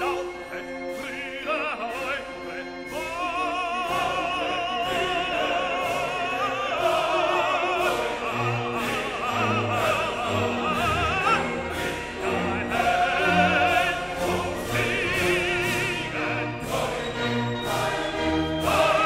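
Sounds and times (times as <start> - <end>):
operatic singing with orchestra: 0.0 - 19.0.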